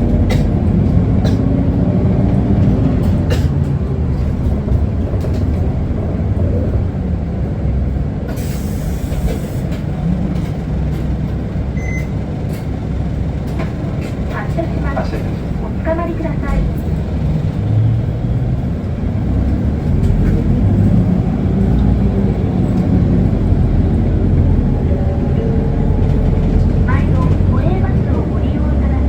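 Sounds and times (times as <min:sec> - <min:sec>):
bus diesel engine rumble: 0:00.0 - 0:29.0.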